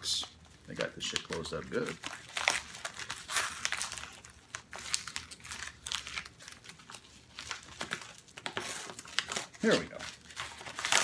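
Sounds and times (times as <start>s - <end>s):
paper crinkling and rustling: 0.4s - 11.0s
envelope tearing crackles: 0.6s - 11.0s.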